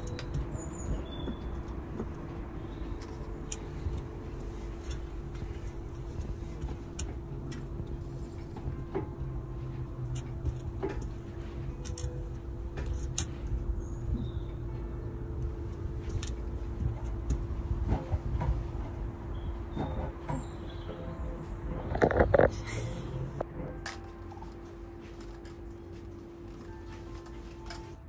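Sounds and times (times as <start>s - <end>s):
low hum and rumble: 0.0s - 28.0s.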